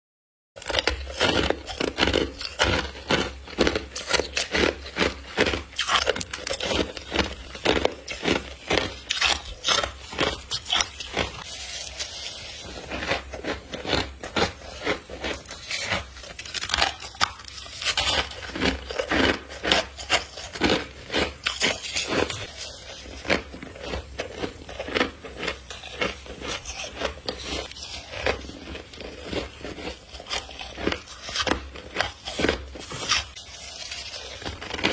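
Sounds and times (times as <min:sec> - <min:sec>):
chewing crunchy ice crystals: 0:00.6 - 0:34.9.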